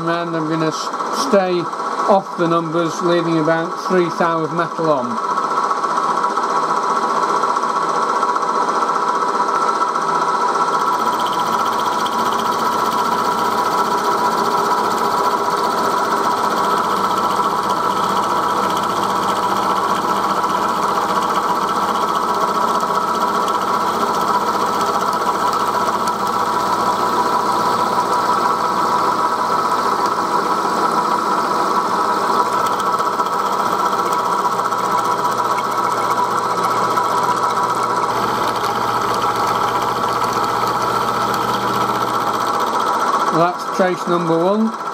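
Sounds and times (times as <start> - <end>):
milling machine whine: 0.0 - 7.8, 10.4 - 44.9.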